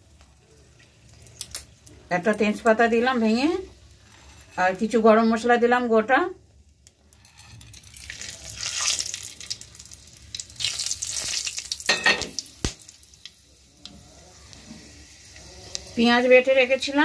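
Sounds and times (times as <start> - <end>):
spices sizzling in hot oil: 0.0 - 17.0.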